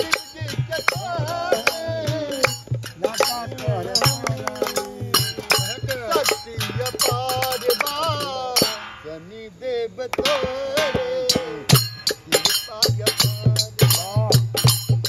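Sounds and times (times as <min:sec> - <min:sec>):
man singing: 0:00.0 - 0:15.0
sharp percussion strikes: 0:00.0 - 0:15.0.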